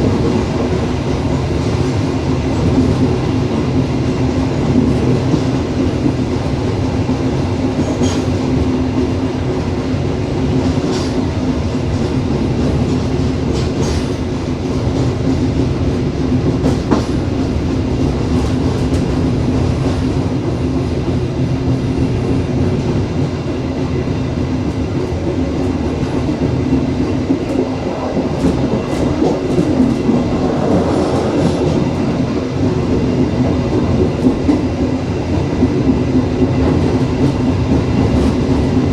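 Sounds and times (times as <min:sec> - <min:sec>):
train rumbling along track: 0:00.0 - 0:38.9
train wheels clicking and knocking: 0:00.0 - 0:38.9.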